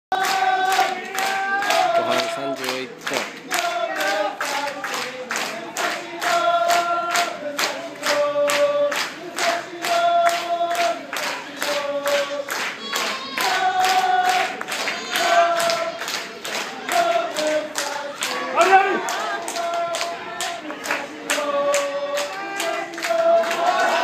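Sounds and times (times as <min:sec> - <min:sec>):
crowd chanting in unison: 0:00.1 - 0:24.0
crowd clapping a beat: 0:00.1 - 0:24.0.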